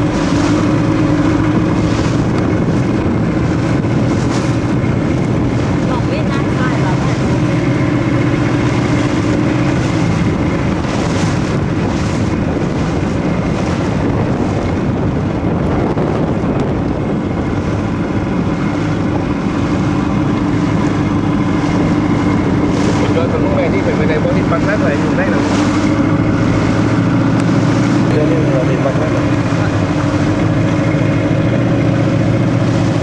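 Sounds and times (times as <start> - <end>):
motorboat engine running: 0.0 - 33.0
wind buffeting microphone: 0.0 - 33.0.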